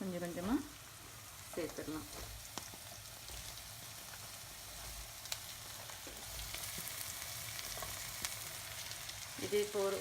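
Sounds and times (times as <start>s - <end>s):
hot oil sizzling in a pan: 0.0s - 10.0s
light crackles: 1.1s - 9.7s.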